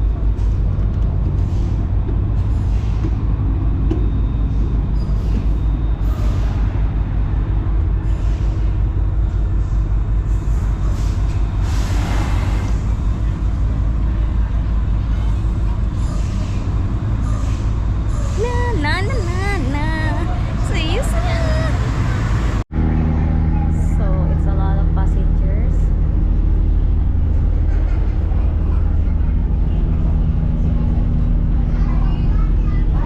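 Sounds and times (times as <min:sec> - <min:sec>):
large diesel engine running: 0:00.0 - 0:33.0.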